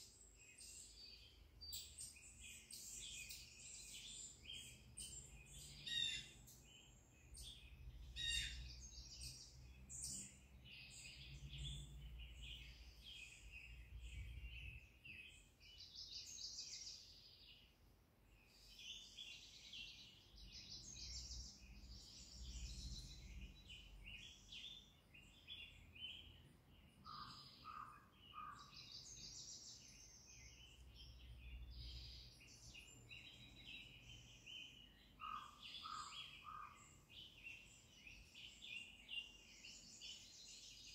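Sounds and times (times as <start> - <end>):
birdsong chirps and trills: 0.0 - 40.9.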